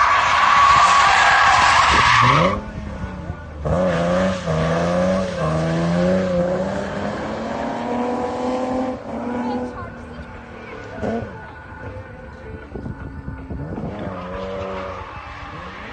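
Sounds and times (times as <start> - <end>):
car engine revving: 1.5 - 11.9, 13.4 - 15.9.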